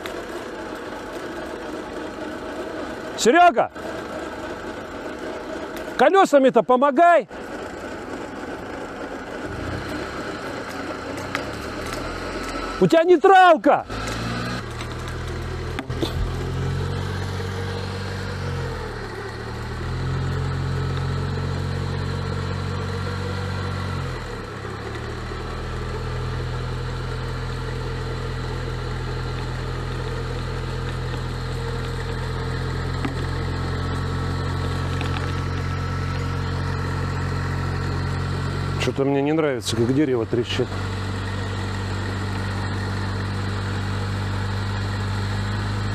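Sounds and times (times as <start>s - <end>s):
off-road vehicle engine running: 0.0s - 45.9s.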